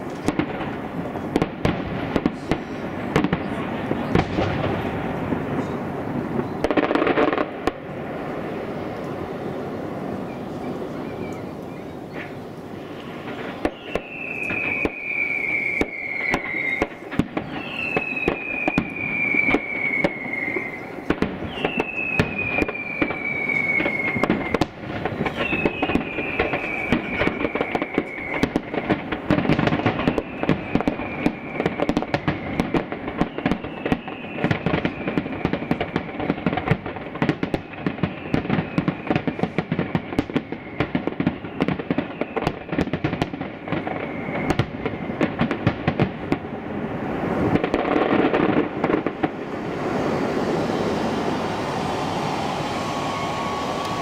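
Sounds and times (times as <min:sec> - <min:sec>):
falling firework whistles: 0:00.0 - 0:09.0, 0:10.1 - 0:54.0
fireworks bangs and crackling: 0:00.0 - 0:54.0.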